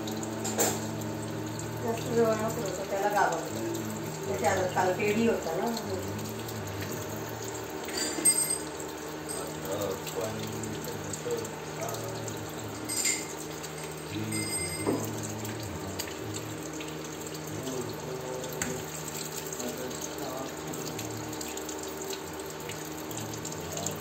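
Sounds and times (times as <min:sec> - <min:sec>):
tap water running into basin: 0:00.0 - 0:24.0.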